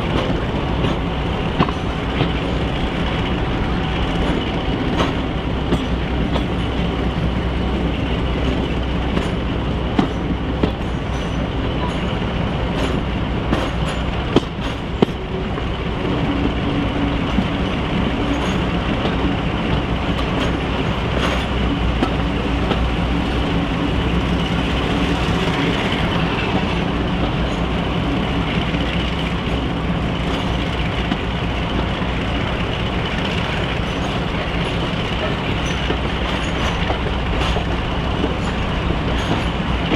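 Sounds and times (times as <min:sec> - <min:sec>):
wheels clicking over rail joints: 0:00.0 - 0:03.2, 0:04.1 - 0:07.4, 0:08.4 - 0:16.6, 0:17.2 - 0:39.9
diesel locomotive engines running: 0:00.0 - 0:39.9
rumble of train coaches: 0:00.0 - 0:39.9.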